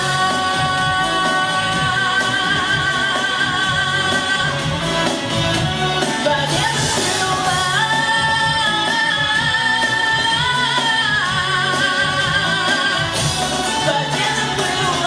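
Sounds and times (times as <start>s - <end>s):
pop backing track with beat: 0.0s - 15.0s.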